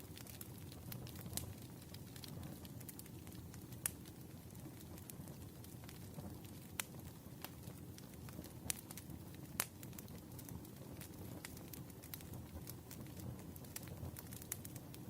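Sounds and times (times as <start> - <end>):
campfire crackling: 0.0 - 15.0
sharp pops of fire: 0.0 - 15.0.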